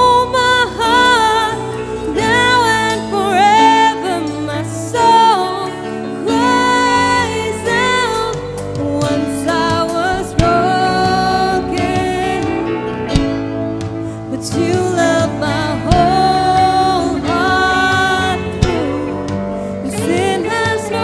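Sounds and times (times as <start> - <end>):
live band with electric guitar: 0.0 - 21.0.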